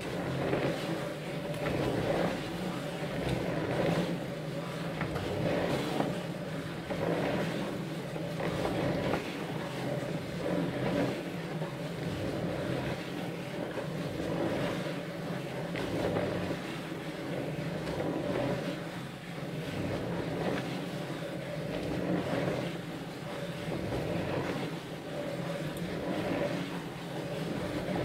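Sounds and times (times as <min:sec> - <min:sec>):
drawing machine mechanical hum: 0:00.0 - 0:28.0.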